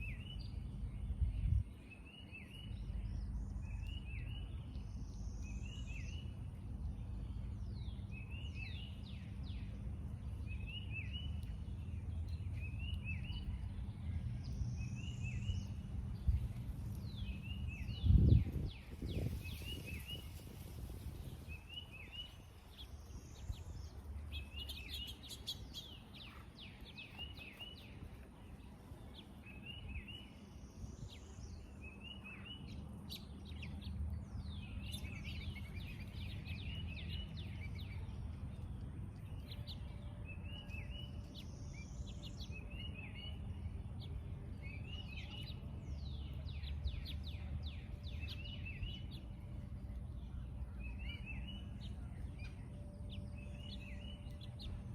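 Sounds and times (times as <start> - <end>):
low steady background rumble: 0.0 - 54.9.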